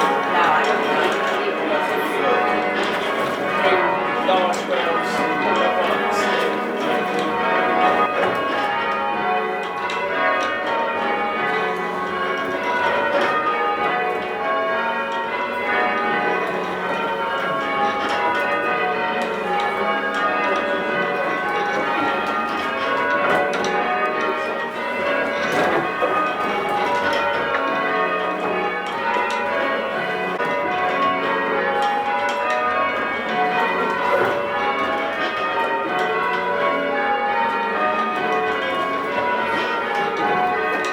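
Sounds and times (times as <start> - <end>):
church bells ringing changes: 0.0 - 40.9.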